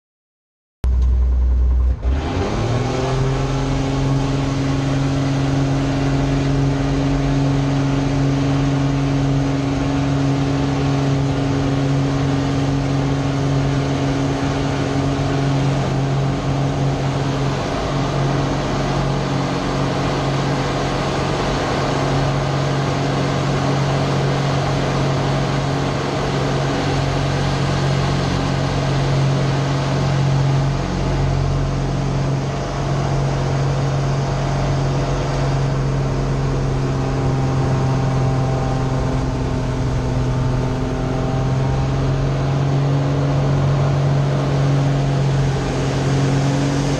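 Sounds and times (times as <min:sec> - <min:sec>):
aircraft piston engine: 0:01.0 - 0:46.9.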